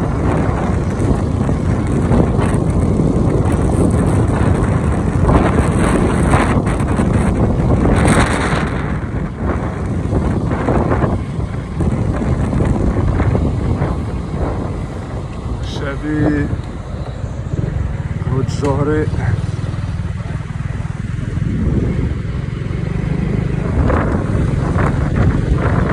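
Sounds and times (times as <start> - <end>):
motorbike engine and road noise: 0.0 - 25.9
wind buffeting microphone: 0.0 - 25.9.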